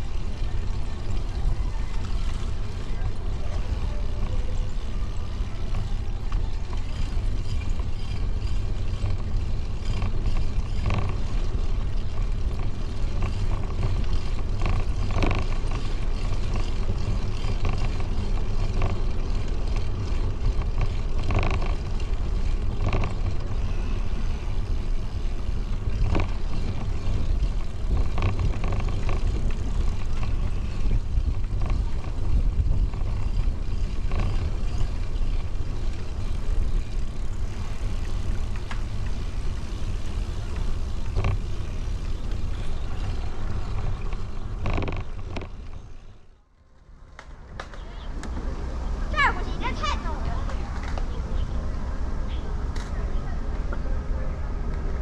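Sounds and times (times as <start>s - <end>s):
wind buffeting microphone: 0.0s - 46.3s.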